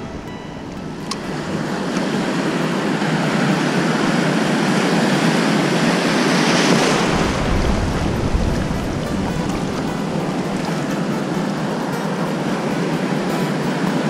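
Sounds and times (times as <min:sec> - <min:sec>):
surf breaking: 0:00.0 - 0:14.0
whitewater rushing: 0:00.0 - 0:14.0.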